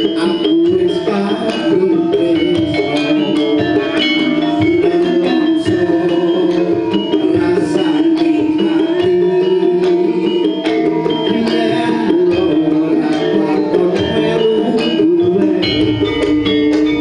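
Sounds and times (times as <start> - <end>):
gamelan metallophones ringing: 0.0 - 17.0
hand drum strokes: 0.0 - 17.0.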